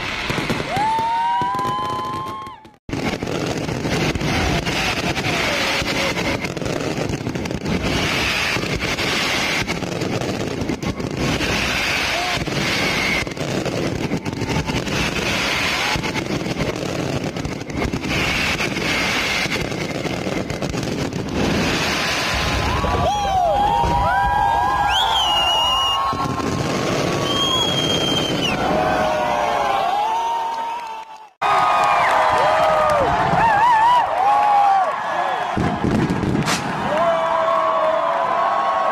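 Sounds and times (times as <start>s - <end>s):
fireworks crackling and banging: 0.0s - 38.5s.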